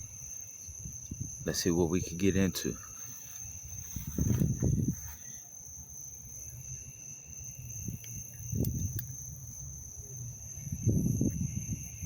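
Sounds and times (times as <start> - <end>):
insects trilling: 0.0 - 12.0
lower insect trill: 0.0 - 12.0.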